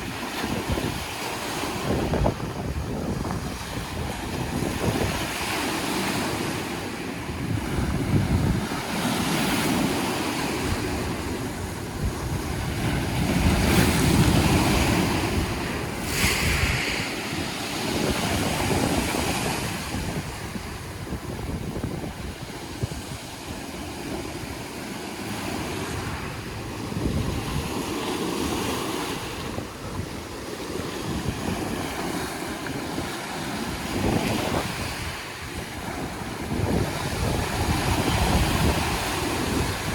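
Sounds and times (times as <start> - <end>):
sea waves washing onto shore: 0.0 - 39.9
wind buffeting microphone: 0.0 - 39.9.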